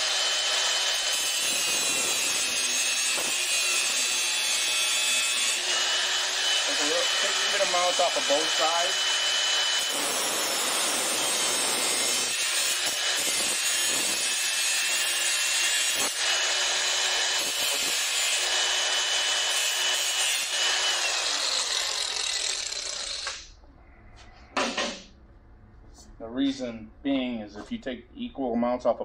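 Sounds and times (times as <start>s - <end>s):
power tool cutting: 0.0s - 23.5s.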